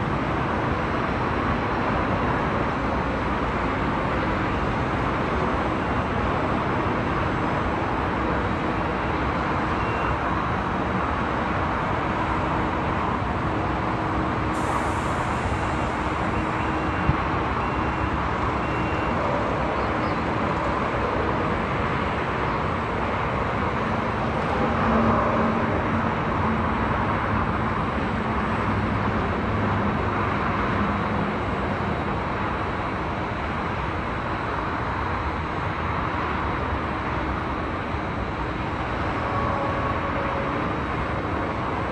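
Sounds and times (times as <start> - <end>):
highway traffic noise: 0.0 - 41.9.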